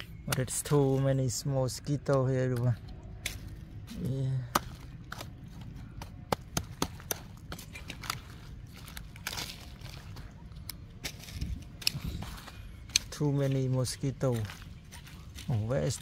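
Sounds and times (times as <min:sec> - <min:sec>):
dry debris crunching: 0:00.0 - 0:16.0.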